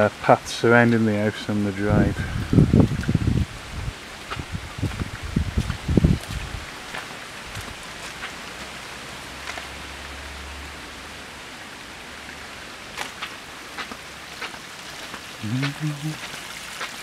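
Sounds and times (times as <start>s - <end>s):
light rain on wet paving: 0.0s - 17.0s.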